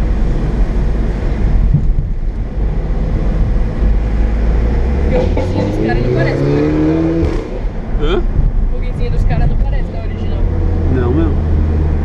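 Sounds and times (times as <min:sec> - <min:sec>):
car driving road noise: 0:00.0 - 0:12.0.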